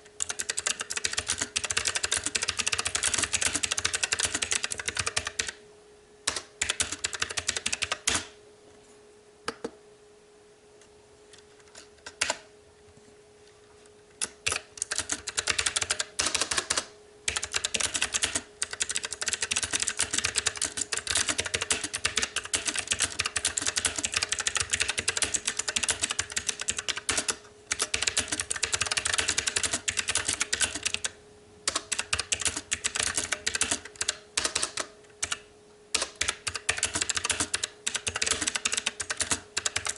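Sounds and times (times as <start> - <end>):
faint steady hum: 0.0 - 39.9
fast typing on mechanical keyboard: 0.2 - 5.6, 6.3 - 8.3, 14.2 - 39.9.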